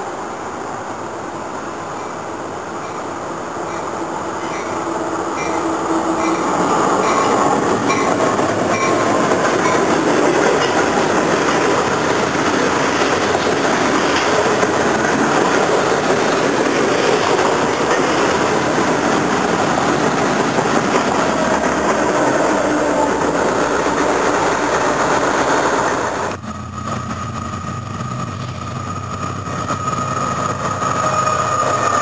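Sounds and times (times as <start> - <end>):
freight train wheels on rails: 0.0 - 32.0.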